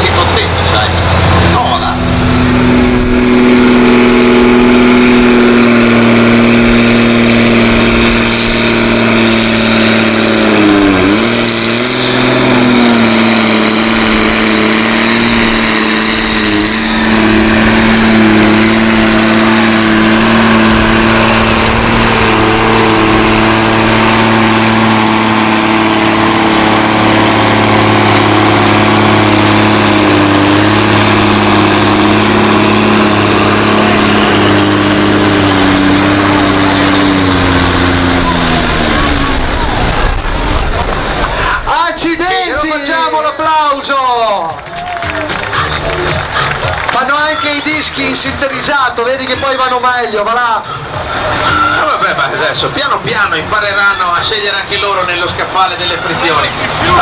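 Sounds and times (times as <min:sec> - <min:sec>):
tractor engine at full throttle: 0:00.0 - 0:57.0.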